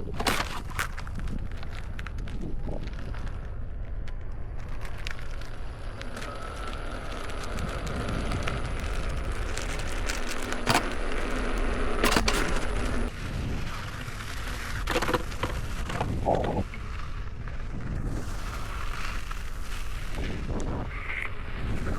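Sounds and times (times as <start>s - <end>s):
low rumble: 0.0s - 21.9s.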